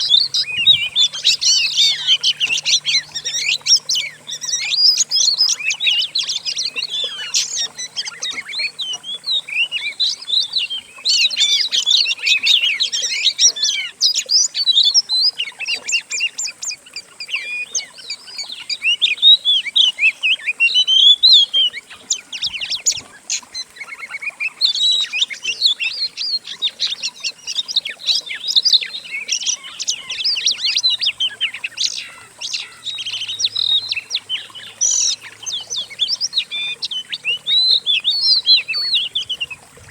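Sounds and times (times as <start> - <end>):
songbirds twittering and whistling: 0.0 - 39.9.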